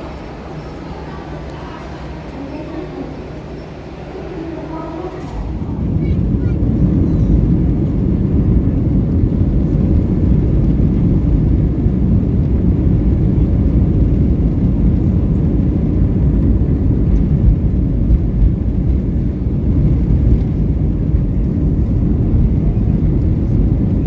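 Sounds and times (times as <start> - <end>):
jet engines low rumble in cabin: 0.0 - 24.0.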